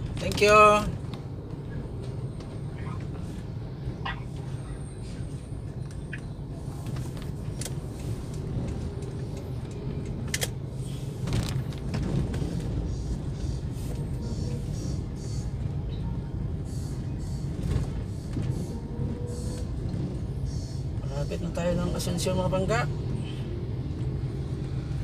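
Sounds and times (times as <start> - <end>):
car cabin engine and road rumble: 0.0 - 25.0.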